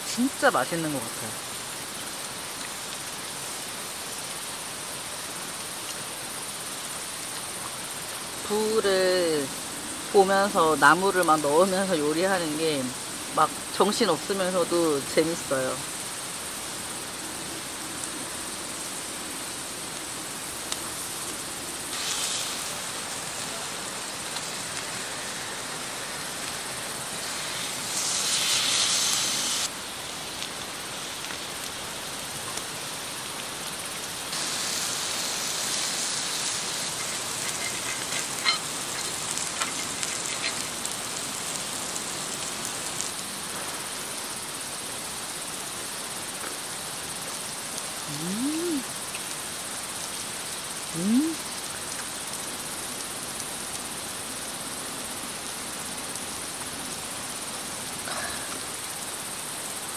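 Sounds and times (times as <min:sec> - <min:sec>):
fire crackling: 0:00.0 - 0:59.9
food sizzling on grill: 0:00.0 - 0:59.9.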